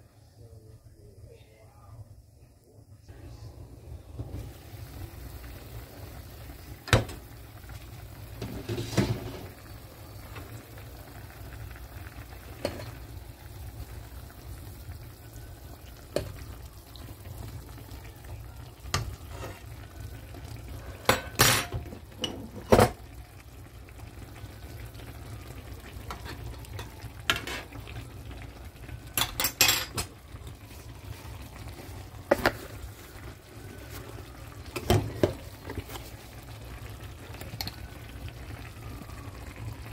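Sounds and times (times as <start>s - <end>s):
broth bubbling in a pan: 2.2s - 39.9s.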